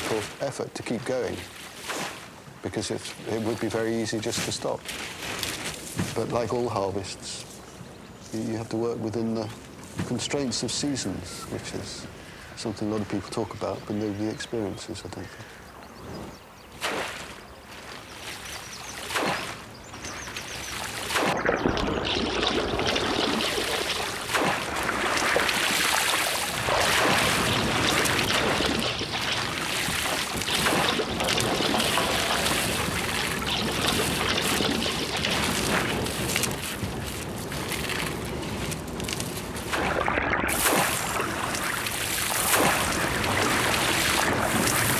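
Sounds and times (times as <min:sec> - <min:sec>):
rustle of wet rush stems: 0:00.0 - 0:08.4, 0:16.8 - 0:44.9
river water splashing and trickling: 0:00.0 - 0:16.0, 0:16.7 - 0:44.9.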